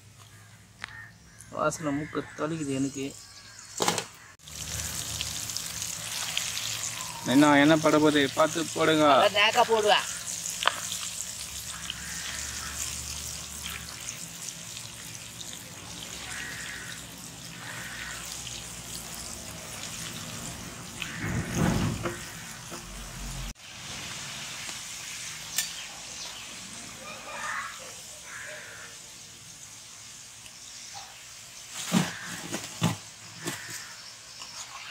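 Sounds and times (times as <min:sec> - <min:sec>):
oil sizzling deep-frying: 0:02.9 - 0:34.9.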